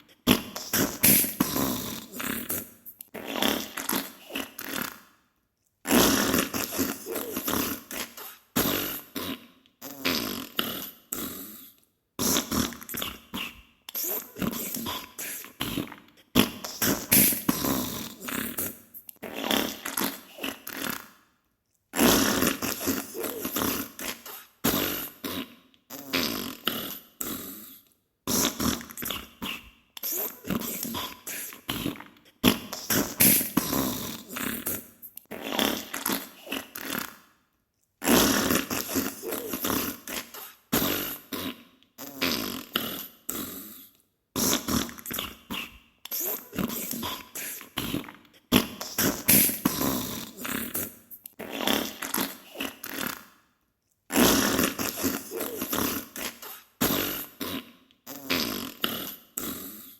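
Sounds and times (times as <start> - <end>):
wet sputtering farts: 0.3 - 5.1, 5.9 - 11.5, 12.2 - 21.1, 22.0 - 27.4, 28.3 - 37.2, 38.0 - 43.5, 44.4 - 53.3, 54.1 - 59.8.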